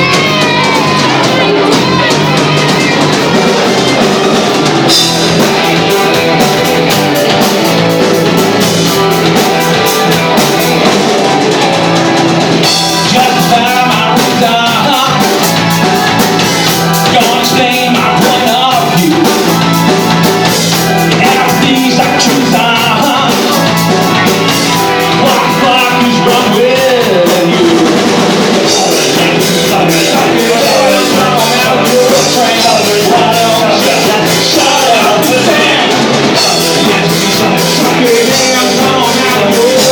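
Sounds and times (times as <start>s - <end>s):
drum kit: 0.0s - 39.9s
guitars: 0.0s - 39.9s
person singing: 0.0s - 39.9s.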